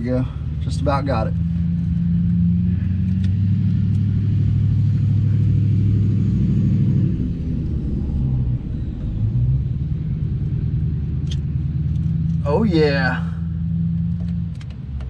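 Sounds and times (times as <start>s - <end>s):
loud low rumble: 0.0s - 14.6s.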